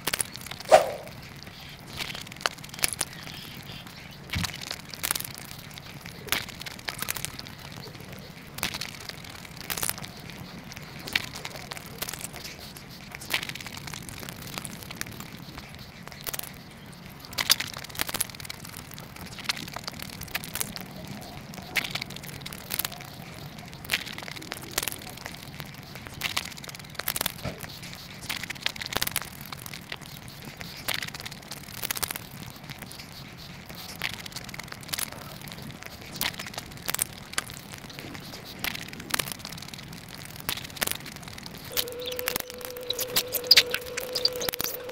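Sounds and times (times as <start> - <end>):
crisp shells crunching: 0.0 - 16.6, 17.2 - 44.9
wet chewing: 0.0 - 44.9.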